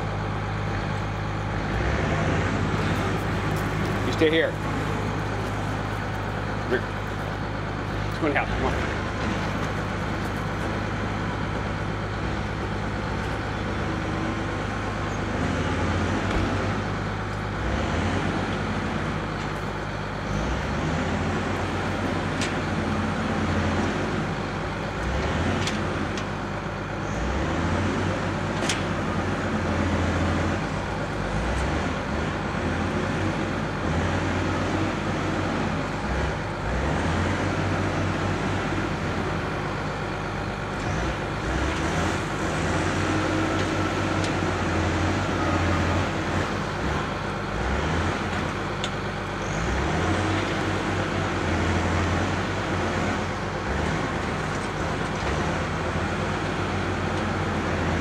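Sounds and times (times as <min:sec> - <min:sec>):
loader diesel engine running: 0:00.0 - 0:58.0.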